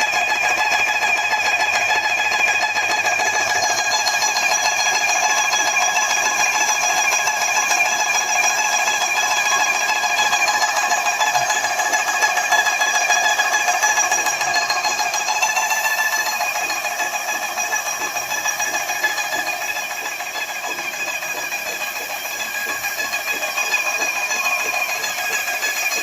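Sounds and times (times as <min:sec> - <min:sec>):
paint-spraying machine whining: 0:00.0 - 0:26.0.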